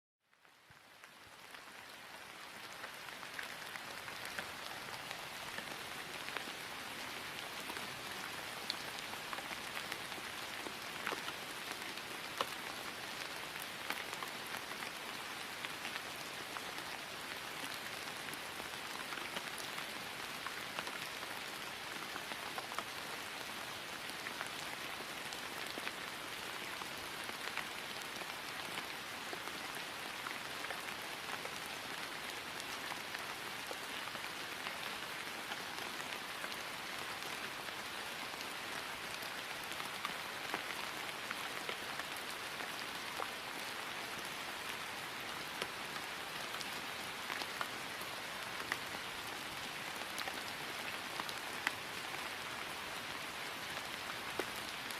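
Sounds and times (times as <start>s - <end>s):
rain falling on grass: 0.2s - 54.9s.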